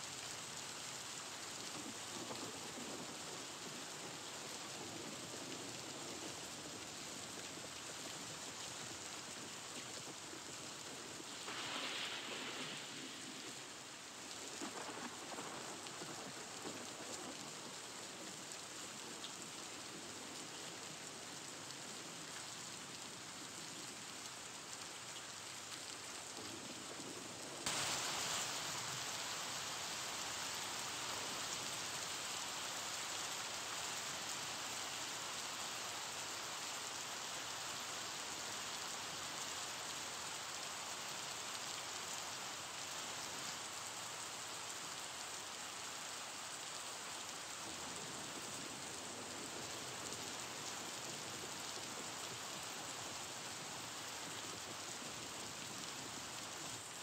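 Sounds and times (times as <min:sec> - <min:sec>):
rain-like hiss: 0:00.0 - 0:57.0.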